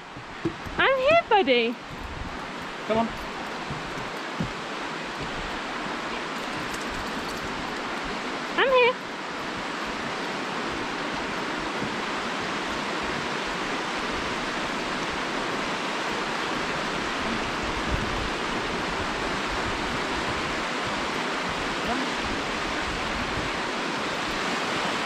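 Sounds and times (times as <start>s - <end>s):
stream water rushing over stones: 0.0s - 25.0s.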